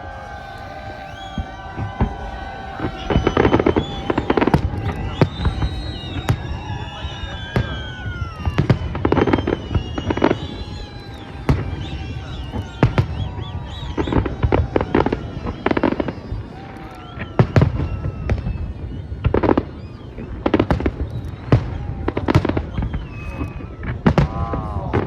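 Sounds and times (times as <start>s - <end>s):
fireworks bangs and crackling: 0.0s - 25.0s
fireworks whistling: 0.0s - 25.0s.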